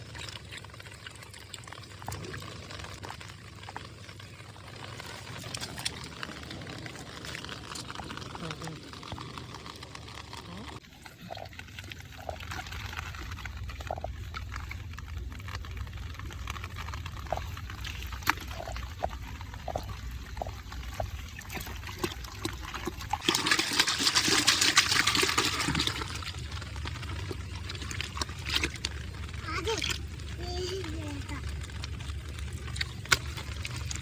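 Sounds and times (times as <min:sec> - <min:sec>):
water splashing and dribbling: 0:00.0 - 0:34.0.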